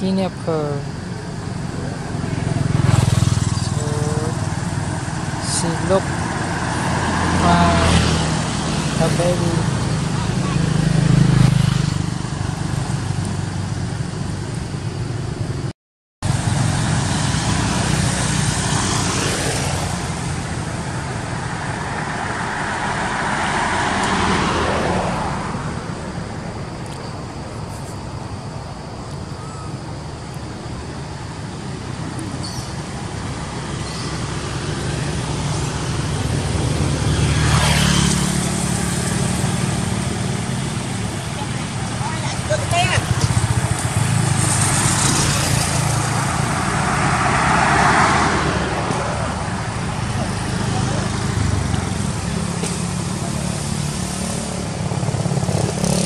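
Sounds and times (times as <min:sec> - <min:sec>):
road traffic hum: 0:00.0 - 0:56.0
vehicle passing by: 0:01.9 - 0:13.7, 0:16.3 - 0:26.9, 0:30.4 - 0:56.0.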